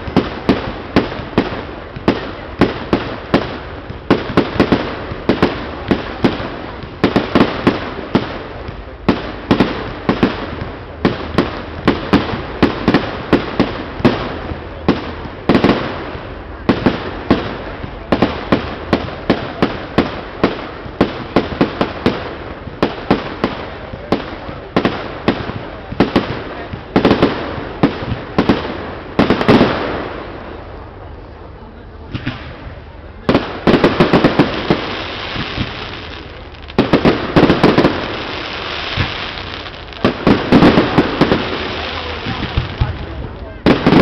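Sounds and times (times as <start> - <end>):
fireworks bangs: 0.0 - 44.0
fireworks crackle: 0.0 - 44.0.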